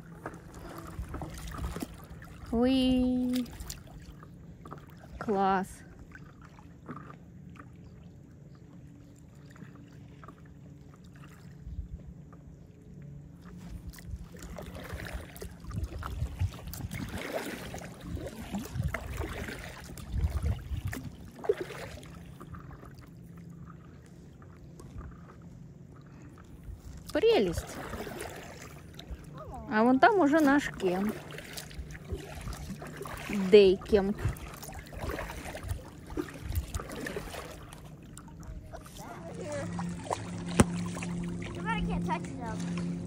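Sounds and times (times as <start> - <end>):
paddle strokes splashing: 0.0 - 11.7, 13.3 - 43.0
water lapping against board: 0.0 - 43.0.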